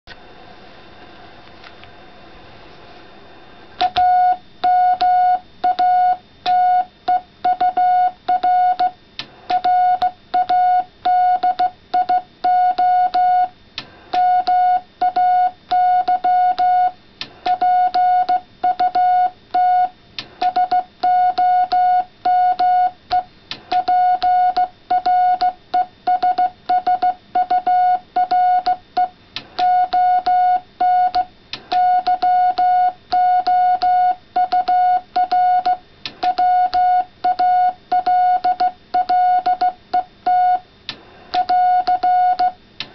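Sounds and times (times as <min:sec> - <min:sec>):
morse code tone keyed on and off: 0:03.8 - 0:13.5, 0:14.2 - 0:40.6, 0:41.4 - 0:42.6.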